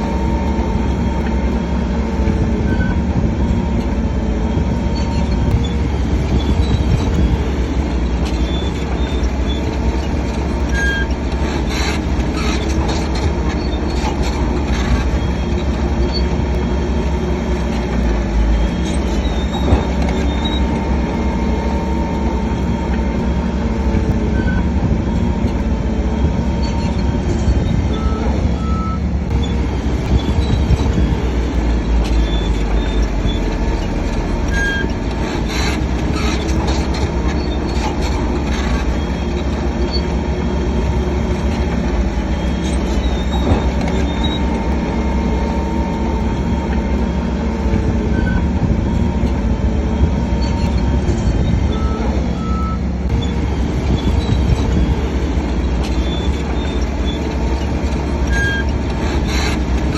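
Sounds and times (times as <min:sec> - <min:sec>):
heavy diesel machinery running: 0:00.0 - 0:59.9
steel tracks squeaking: 0:00.0 - 0:59.9.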